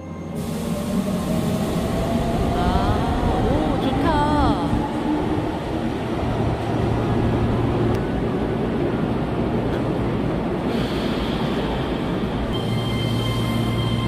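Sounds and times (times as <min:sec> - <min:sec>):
train rumbling hum: 0:00.0 - 0:14.0.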